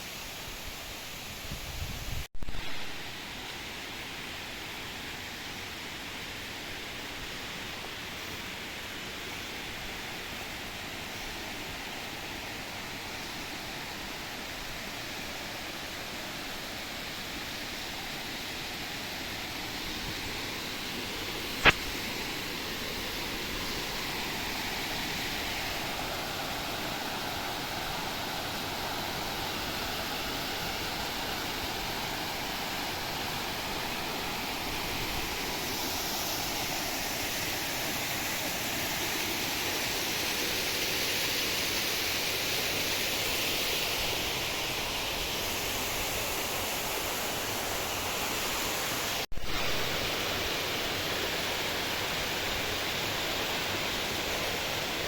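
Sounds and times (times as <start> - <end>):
flowing water rushing: 2.5 - 55.0.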